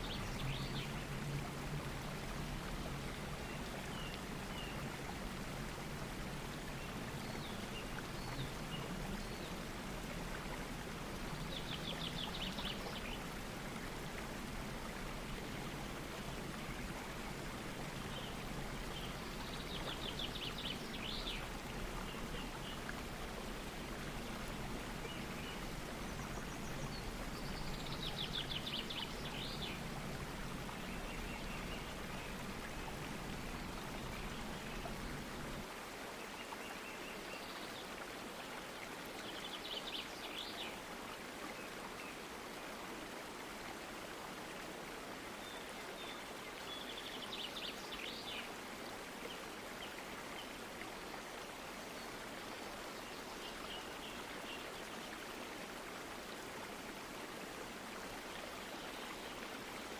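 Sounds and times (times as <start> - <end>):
waterfall running: 0.0 - 59.9.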